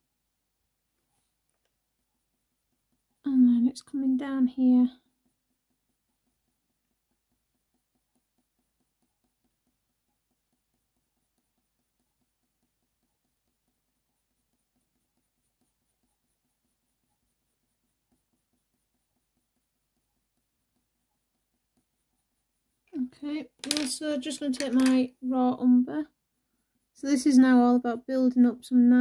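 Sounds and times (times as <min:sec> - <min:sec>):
pencil scratching on paper: 0:00.9 - 0:25.6.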